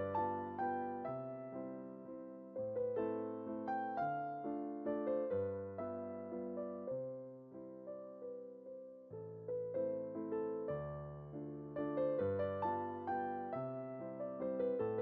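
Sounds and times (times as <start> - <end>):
gentle keyboard melody: 0.0 - 15.0.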